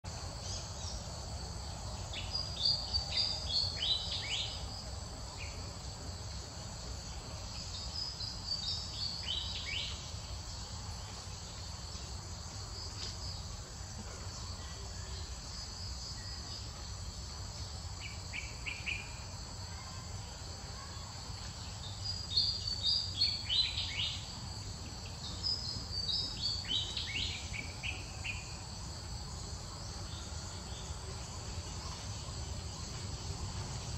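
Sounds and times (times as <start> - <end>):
insect drone: 0.1 - 33.9.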